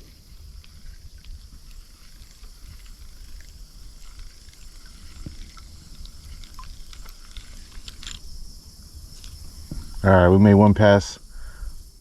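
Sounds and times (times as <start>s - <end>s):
water lapping against kayak hull: 0.0s - 10.0s
small ticks: 0.0s - 10.1s
faint high hiss: 0.0s - 12.0s.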